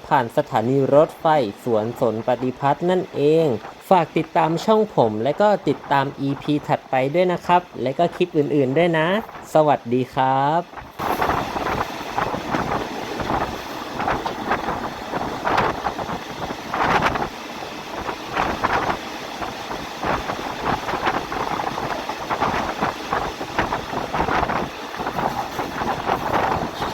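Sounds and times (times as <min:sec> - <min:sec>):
train running noise: 0:00.0 - 0:26.9.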